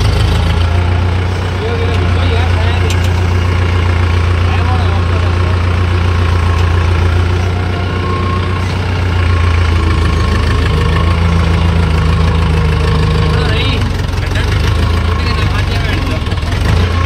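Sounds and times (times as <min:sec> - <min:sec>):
tractor diesel engine running: 0:00.0 - 0:17.0
higher hum: 0:00.6 - 0:17.0.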